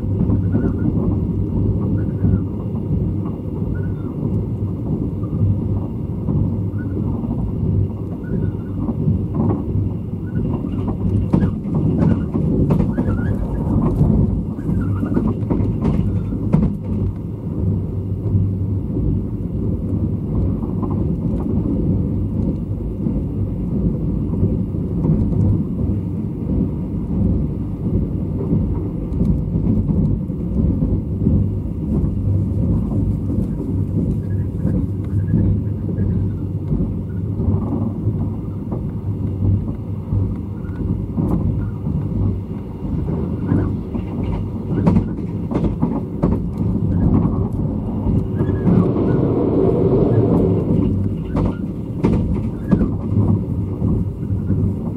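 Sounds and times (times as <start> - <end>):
train wheels rumbling on track: 0.0 - 54.9.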